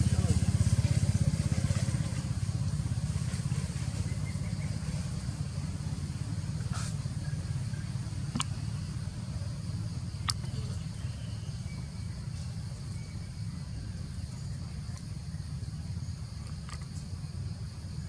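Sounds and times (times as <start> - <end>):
insect drone: 0.0 - 18.0.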